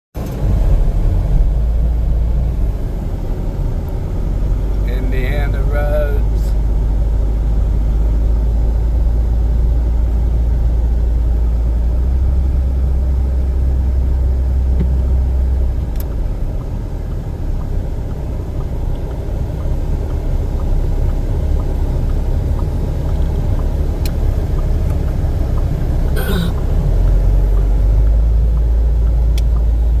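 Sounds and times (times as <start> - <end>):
car rumbling on the move: 0.1 - 30.0.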